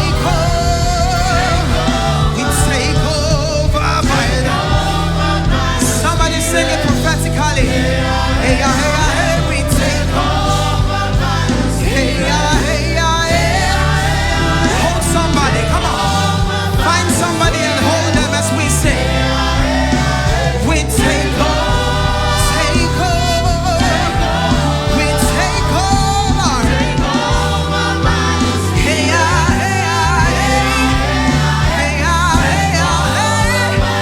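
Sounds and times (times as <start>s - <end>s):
choir and lead singers: 0.0s - 34.0s
worship band playing: 0.0s - 34.0s.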